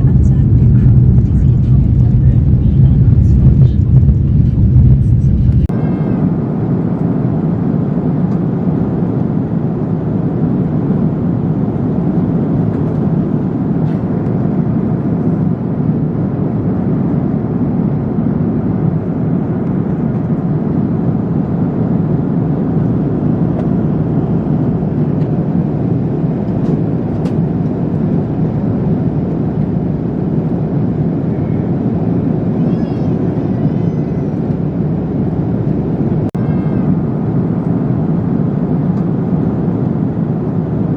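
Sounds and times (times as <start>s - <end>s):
airliner cabin roar: 0.0s - 40.9s.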